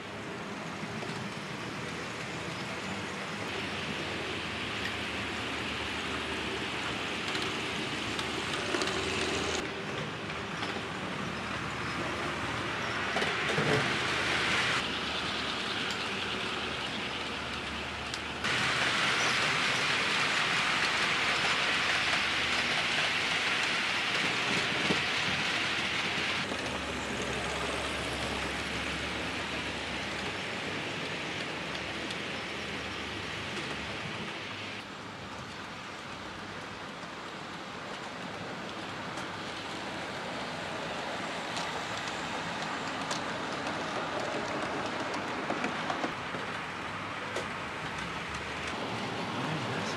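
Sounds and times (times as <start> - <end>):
model trains whirring on track: 0.0 - 49.9.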